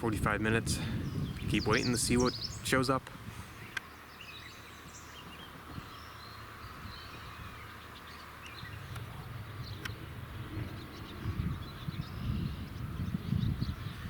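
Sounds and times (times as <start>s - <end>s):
small birds chirping: 0.0s - 14.0s
wind rumble on microphone: 0.0s - 14.0s.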